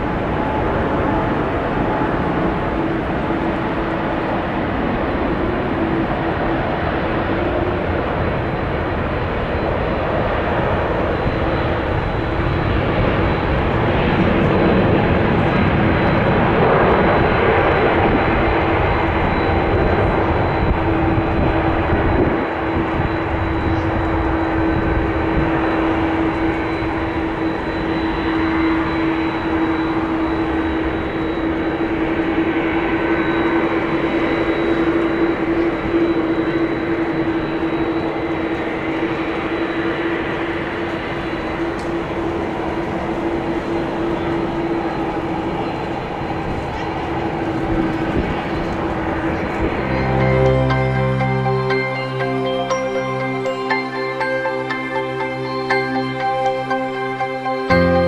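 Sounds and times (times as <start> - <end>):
jet airliner taking off: 0.0 - 58.0.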